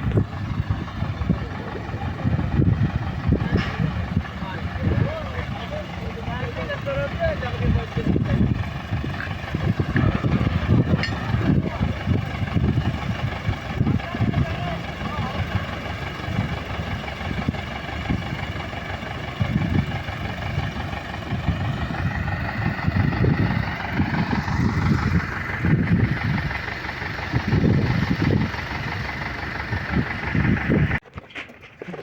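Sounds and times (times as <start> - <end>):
engine humming with low pulses: 0.0 - 32.0.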